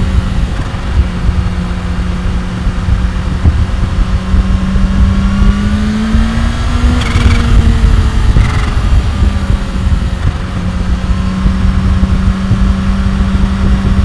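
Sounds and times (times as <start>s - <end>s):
motorcycle engine and exhaust: 0.0s - 14.0s.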